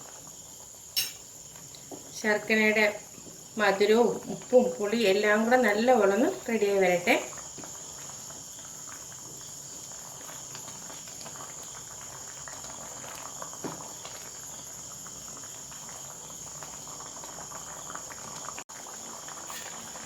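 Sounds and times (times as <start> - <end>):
sauce bubbling in a pan: 0.0 - 20.0.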